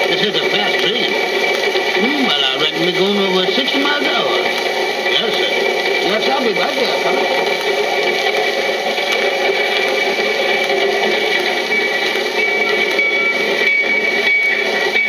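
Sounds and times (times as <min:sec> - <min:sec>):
running train noise: 0:00.0 - 0:15.0.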